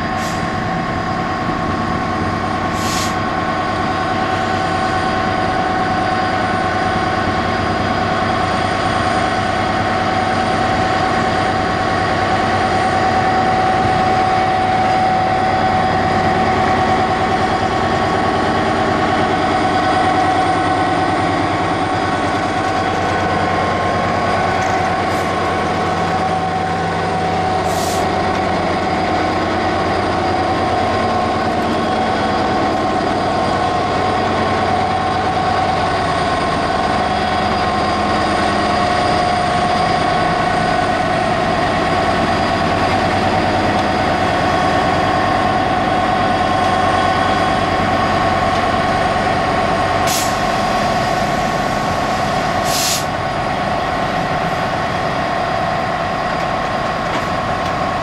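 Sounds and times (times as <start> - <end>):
diesel locomotive passing: 0.0 - 58.0.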